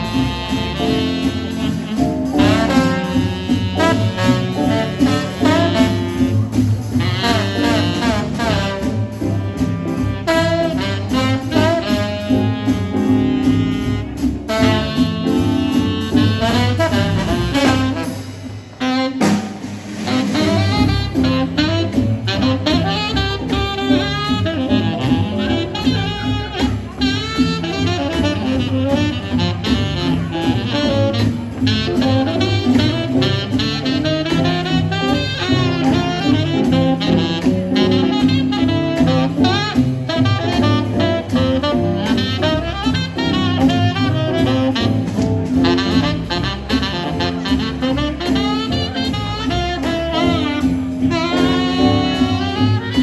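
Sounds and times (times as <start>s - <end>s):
drums: 0.0s - 53.0s
piano: 0.0s - 53.0s
tenor saxophone: 0.0s - 53.0s
trombone: 0.0s - 53.0s
upright bass: 0.0s - 53.0s.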